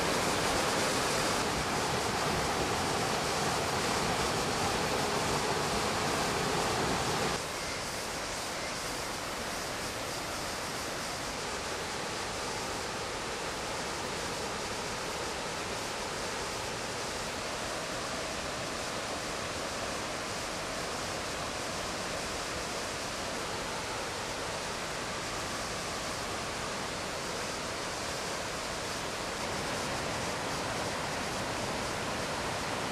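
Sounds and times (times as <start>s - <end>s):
river rushing through gorge: 0.0s - 32.9s.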